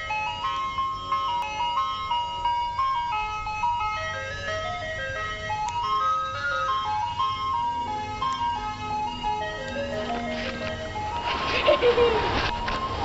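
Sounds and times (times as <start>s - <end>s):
ice cream truck jingle: 0.0s - 13.0s.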